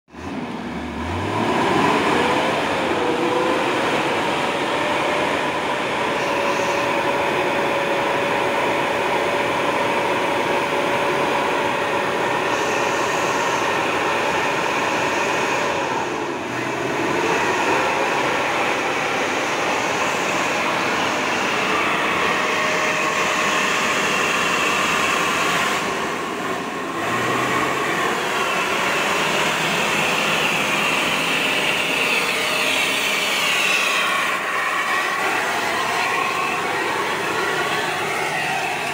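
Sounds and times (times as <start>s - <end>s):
truck engine working hard: 0.1s - 38.9s
steady whine: 0.2s - 38.9s.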